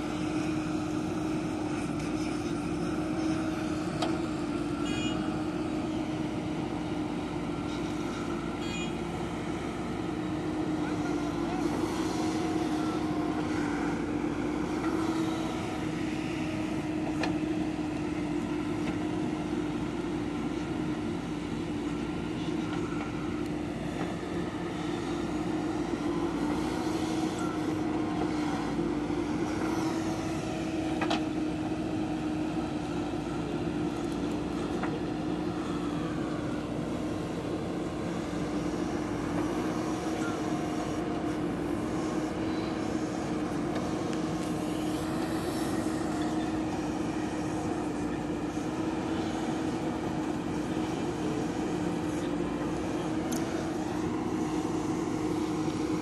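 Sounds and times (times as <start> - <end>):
diesel engine running under load: 0.0 - 56.0
hydraulics working: 0.0 - 56.0.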